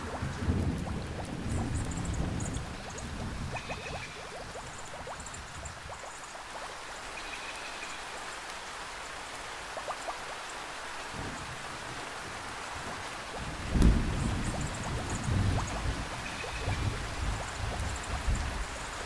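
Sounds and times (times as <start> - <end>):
water drips: 0.0 - 11.6, 12.6 - 19.0
steady rainfall hiss: 0.0 - 19.0.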